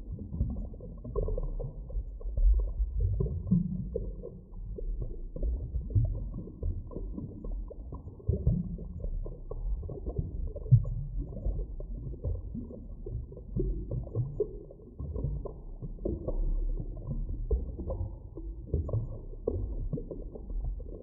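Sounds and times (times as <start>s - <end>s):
muffled underwater rumble: 0.0s - 21.0s
soft knocks and gurgles: 0.0s - 21.0s.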